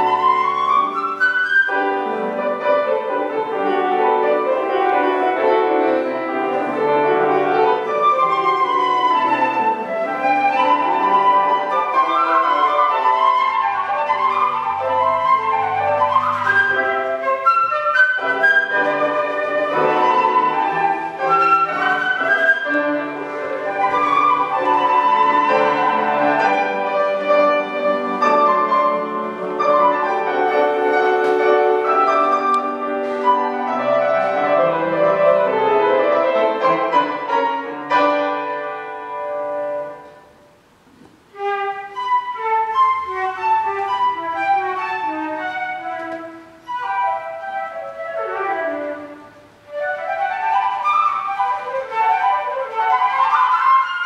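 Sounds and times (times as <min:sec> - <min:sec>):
flute: 0:00.0 - 0:40.3, 0:41.3 - 0:54.0
grand piano: 0:00.0 - 0:54.0.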